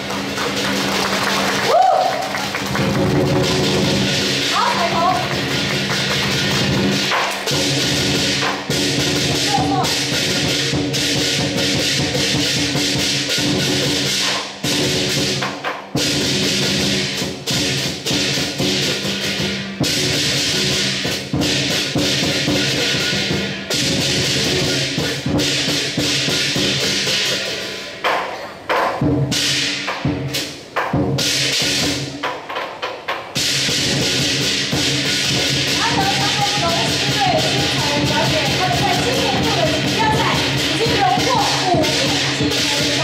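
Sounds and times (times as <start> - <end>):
large drum beating: 0.0 - 32.6, 33.2 - 43.0
cymbals clashing: 0.0 - 43.0.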